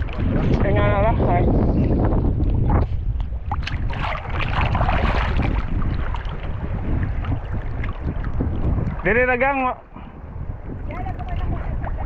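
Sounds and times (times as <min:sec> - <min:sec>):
seawater sloshing and splashing: 0:00.0 - 0:10.0
wind rumbling on microphone: 0:00.0 - 0:12.0.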